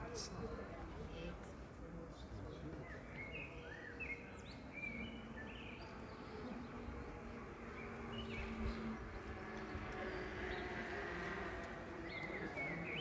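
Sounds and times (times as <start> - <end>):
small birds chirping: 2.1 - 13.0.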